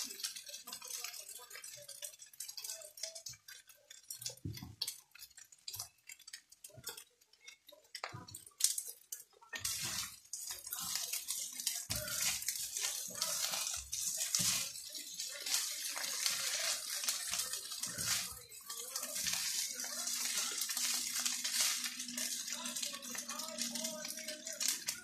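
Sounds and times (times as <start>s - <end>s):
rice sizzling in a frying pan: 0.0s - 25.0s
spatula tossing rice against pan: 0.0s - 25.0s.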